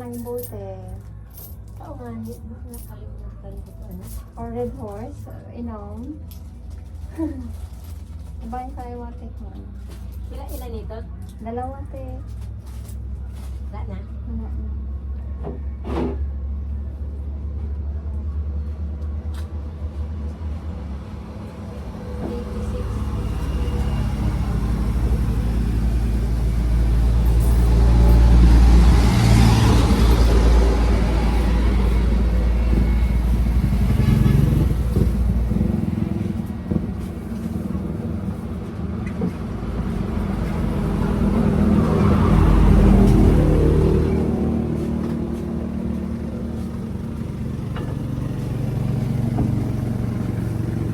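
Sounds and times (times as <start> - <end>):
motor vehicle rumbling: 0.0 - 50.9.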